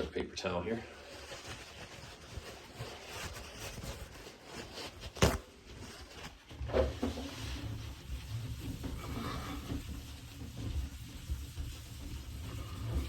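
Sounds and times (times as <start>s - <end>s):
paper towel scrubbing fiberglass: 0.9s - 13.0s.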